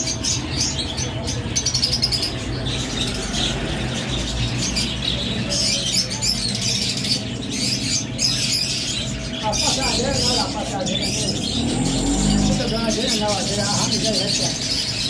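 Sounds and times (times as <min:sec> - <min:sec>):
flock of small birds chirping: 0:00.0 - 0:15.0.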